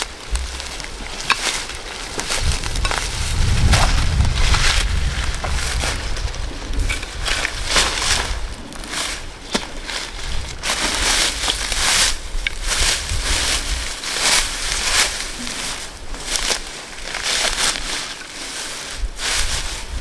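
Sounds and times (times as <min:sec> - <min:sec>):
plant material crunching: 0:00.0 - 0:20.0.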